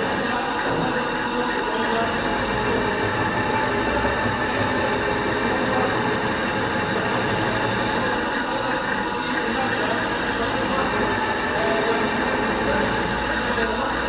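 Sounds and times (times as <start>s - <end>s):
lathe running: 0.0s - 14.0s.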